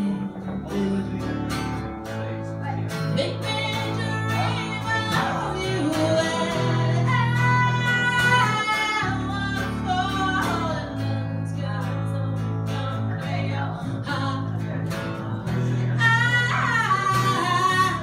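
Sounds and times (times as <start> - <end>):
woman singing: 0.0 - 1.8, 2.5 - 18.0
bowed upright bass: 0.0 - 18.0
strummed acoustic guitar: 0.0 - 18.0.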